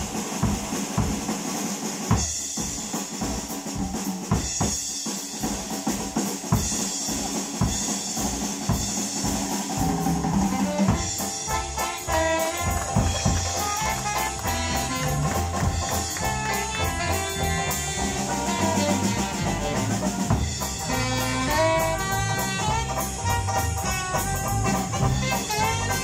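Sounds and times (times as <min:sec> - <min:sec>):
drum kit break: 0:00.0 - 0:26.0
jazz band playing: 0:00.0 - 0:26.0.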